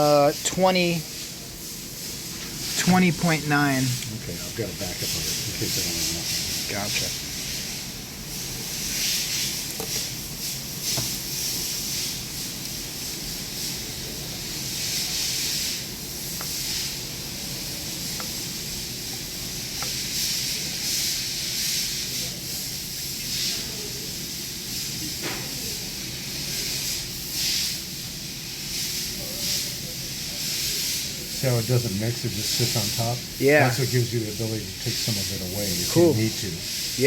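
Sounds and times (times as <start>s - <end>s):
rushing hiss of air: 0.0s - 37.0s.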